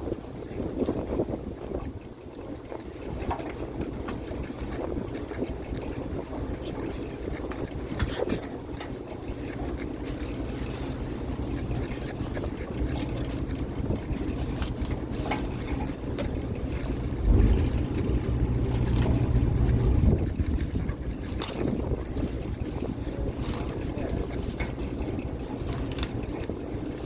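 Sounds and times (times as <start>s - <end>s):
boat engine running: 2.9s - 27.0s.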